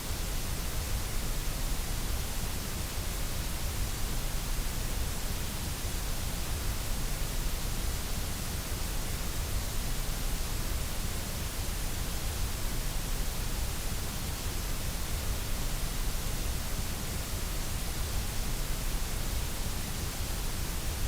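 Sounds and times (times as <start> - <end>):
white noise hiss: 0.0 - 21.0.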